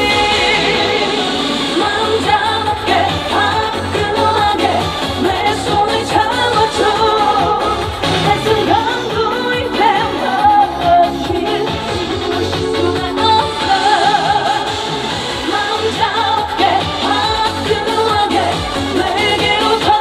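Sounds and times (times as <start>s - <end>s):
amplified backing music with beat: 0.0s - 20.0s
woman singing: 0.0s - 20.0s.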